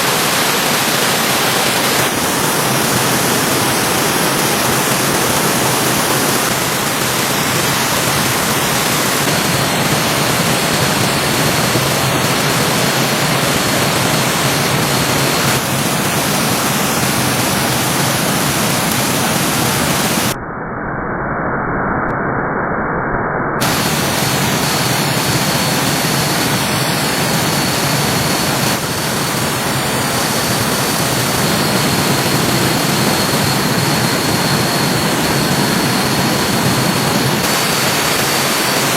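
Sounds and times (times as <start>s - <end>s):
rushing stream water: 0.0s - 20.3s, 23.6s - 38.9s.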